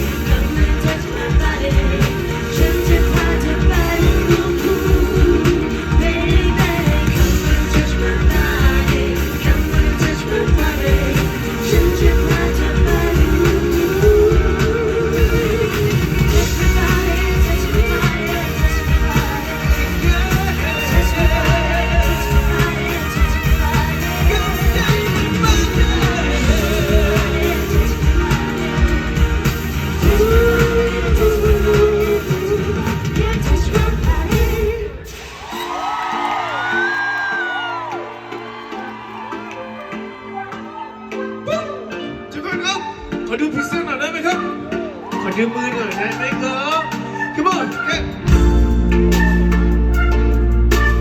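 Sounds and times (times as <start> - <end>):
person singing: 0.0 - 48.4
pop-rock band playing: 0.0 - 51.0.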